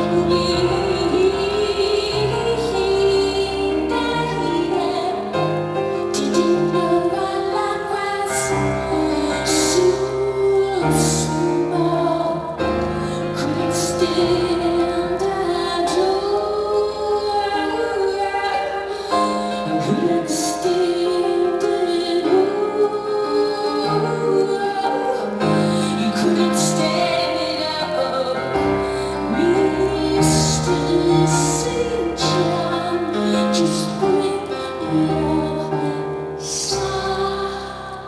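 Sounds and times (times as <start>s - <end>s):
piano and keyboards: 0.0s - 38.0s
woman singing: 0.0s - 38.0s.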